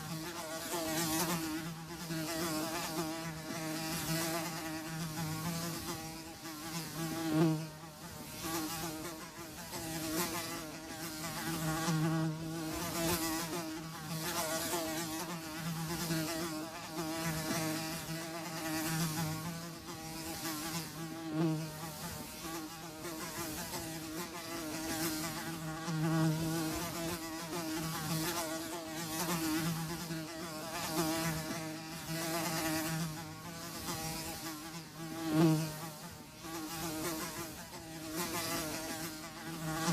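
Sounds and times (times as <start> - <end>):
houseflies buzzing: 0.0 - 39.9.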